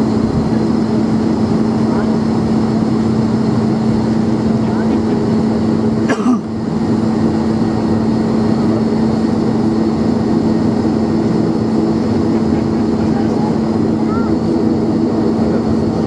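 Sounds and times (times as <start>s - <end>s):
turboprop engine drone: 0.0s - 16.0s.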